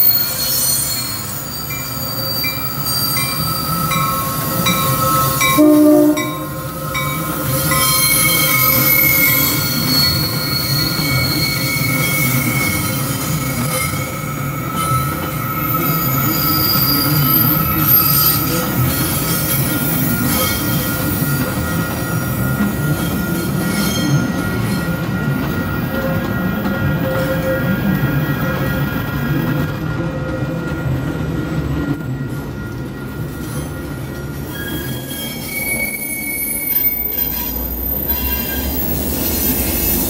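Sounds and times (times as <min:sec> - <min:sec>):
train wheels squealing: 0:00.0 - 0:40.0.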